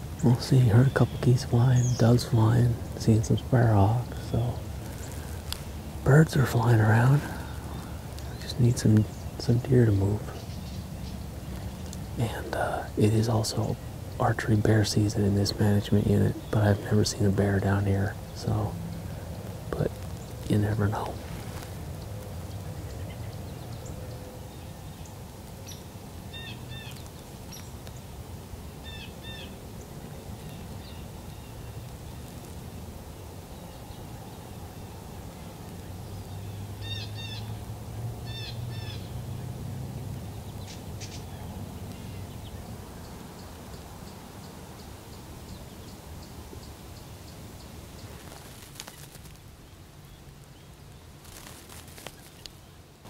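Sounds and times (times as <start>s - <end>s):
wild birds calling: 0.0s - 53.0s.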